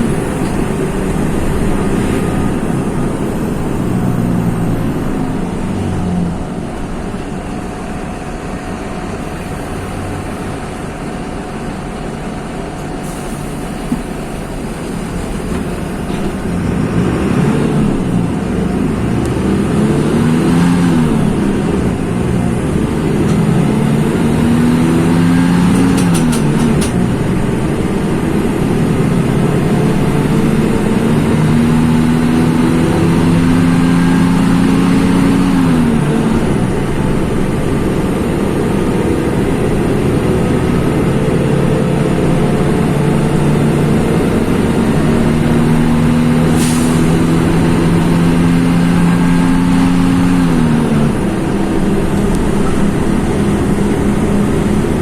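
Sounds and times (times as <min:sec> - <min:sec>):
diesel bus engine accelerating: 0:00.0 - 0:55.0.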